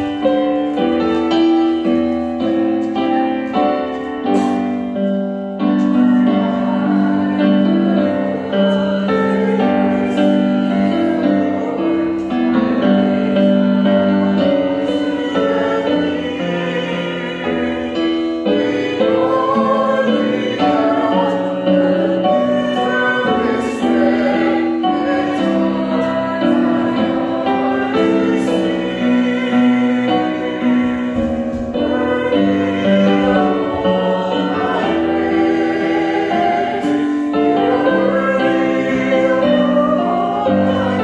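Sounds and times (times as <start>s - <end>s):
people singing: 0.0s - 41.0s
piano accompaniment: 0.0s - 41.0s.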